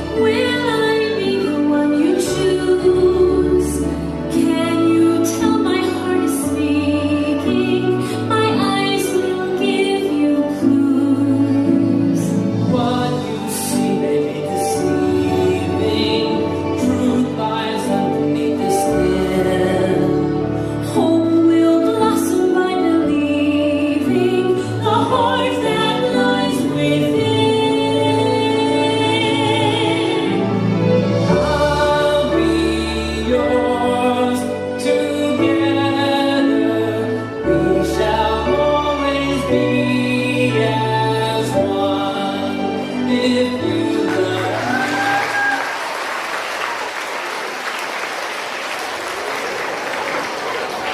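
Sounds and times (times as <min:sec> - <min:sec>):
instrumental accompaniment with bass: 0:00.0 - 0:45.2
person singing with vibrato: 0:00.0 - 0:45.6.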